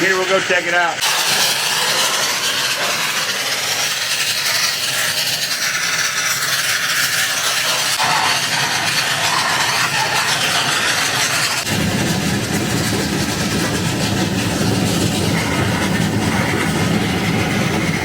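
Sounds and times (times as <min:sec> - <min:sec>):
steam cleaner hissing: 0:00.0 - 0:18.0.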